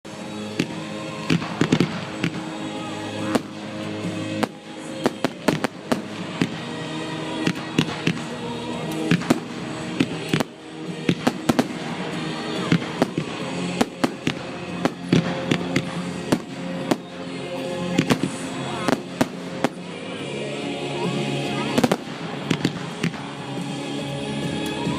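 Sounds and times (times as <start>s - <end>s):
fireworks bangs and crackles: 0.1s - 20.1s, 21.2s - 23.8s
music playing: 0.1s - 24.9s.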